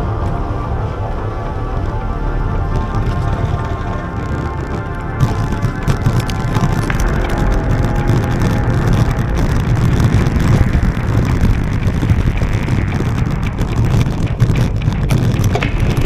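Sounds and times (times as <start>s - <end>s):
wind rumble on microphone: 0.0s - 16.0s
bike clicks and knocks: 2.8s - 16.0s.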